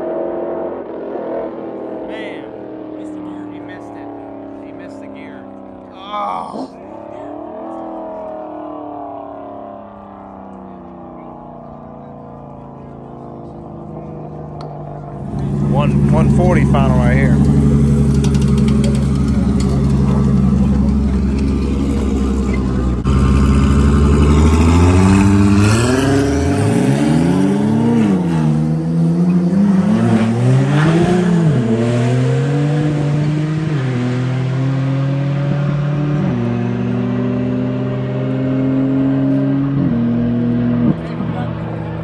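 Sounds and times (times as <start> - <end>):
car engines accelerating: 0.0 - 42.0.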